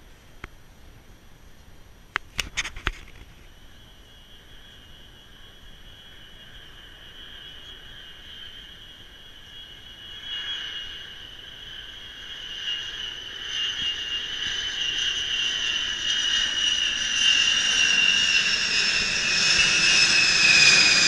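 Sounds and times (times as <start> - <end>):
distant jet engines whining: 2.6 - 21.0.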